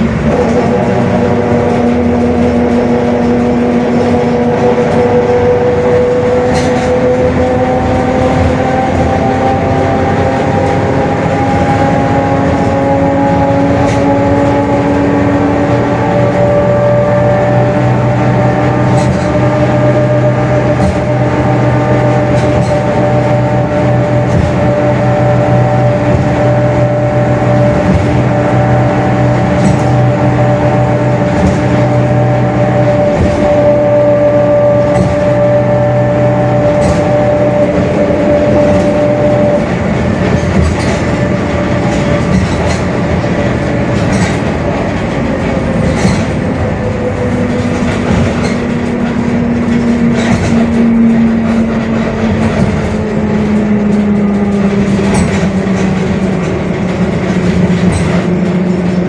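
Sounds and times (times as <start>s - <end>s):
bus diesel engine running: 0.0s - 59.0s
droning gear whine: 0.0s - 59.0s.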